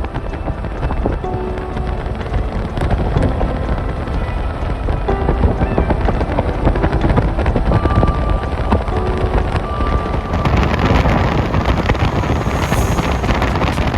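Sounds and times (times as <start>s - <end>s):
heavy rain: 0.0s - 13.9s
low rumble: 0.0s - 13.9s.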